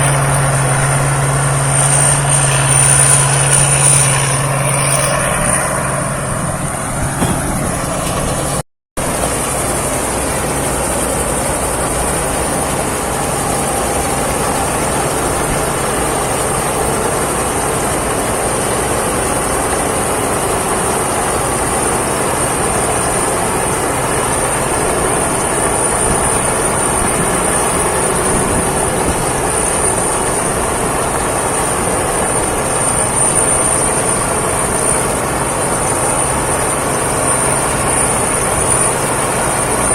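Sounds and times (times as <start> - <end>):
combine harvester running: 0.0 - 39.9
thin high whine: 0.0 - 39.9.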